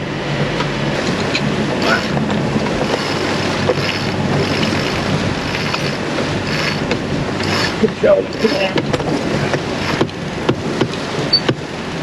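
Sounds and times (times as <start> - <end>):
low steady hum: 0.0 - 12.0
water rushing past hull: 0.0 - 12.0
wind buffeting microphone: 0.0 - 12.0.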